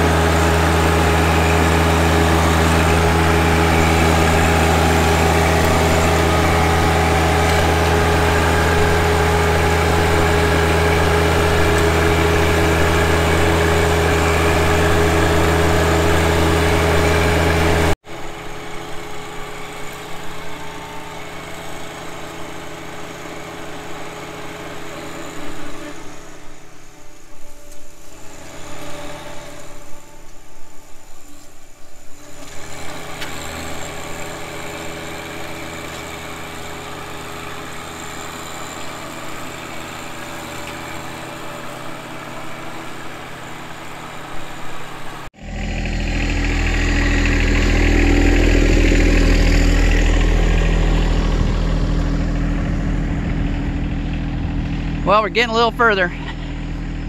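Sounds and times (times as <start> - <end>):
flail mower cutting grass: 0.0 - 57.0
tractor diesel engine running: 0.0 - 57.0.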